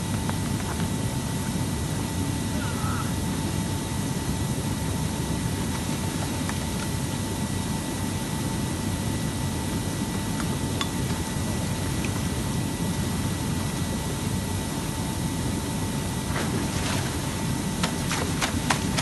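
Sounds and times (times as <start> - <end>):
machine running rumble and hiss: 0.0 - 19.0.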